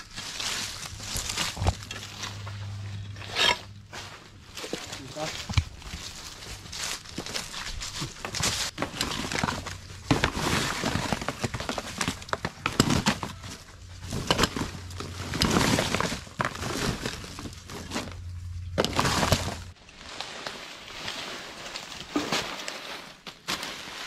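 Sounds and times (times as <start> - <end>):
husks crackling and rustling: 0.0 - 3.2, 3.9 - 24.0.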